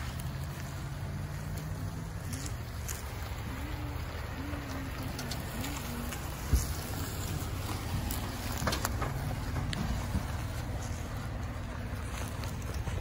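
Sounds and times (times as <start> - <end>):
footsteps through dry grass: 0.0 - 4.6, 5.4 - 13.0
pickup engine idling: 0.0 - 13.0.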